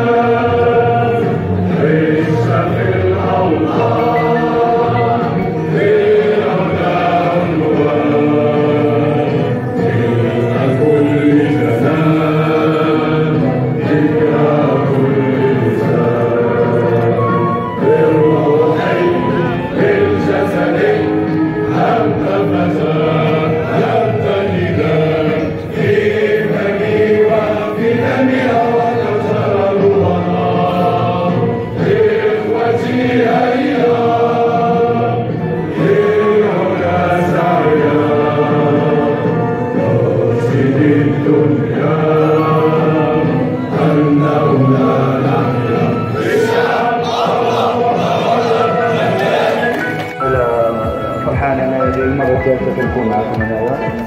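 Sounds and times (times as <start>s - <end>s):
choir singing with accompaniment: 0.0s - 54.0s.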